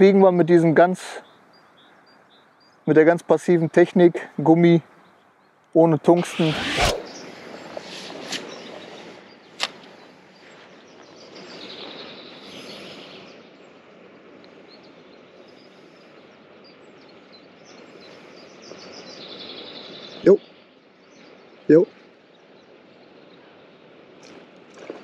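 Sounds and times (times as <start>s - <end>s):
faint bird chirping: 0.0s - 24.6s
steady background hiss: 0.0s - 25.0s.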